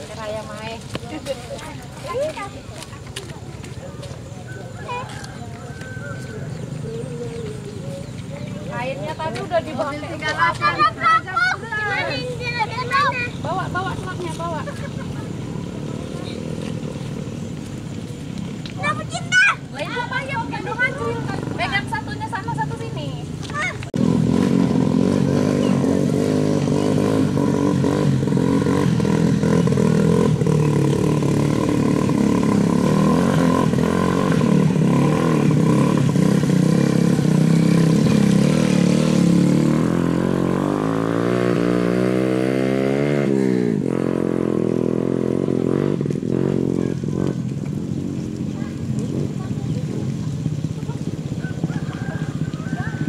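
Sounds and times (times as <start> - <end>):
motorcycle engines revving high: 0.0 - 53.0.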